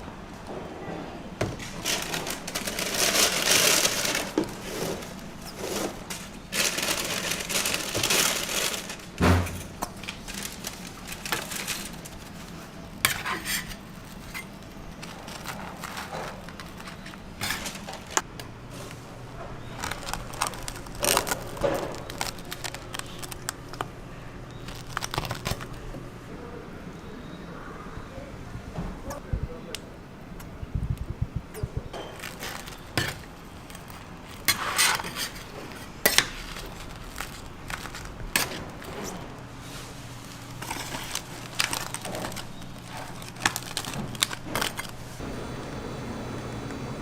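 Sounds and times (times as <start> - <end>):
rustling and crinkling: 0.4 - 26.2, 30.4 - 45.2.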